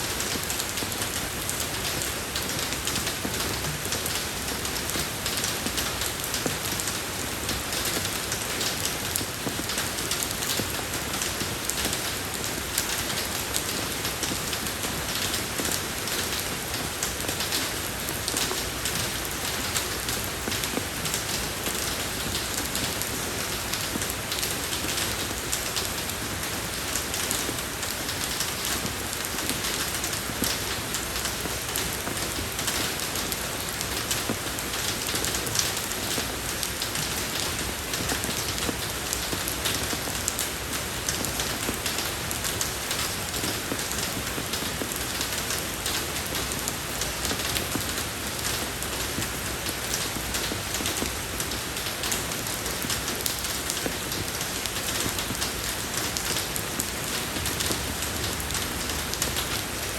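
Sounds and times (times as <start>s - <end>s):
rain falling on a road: 0.0s - 59.9s.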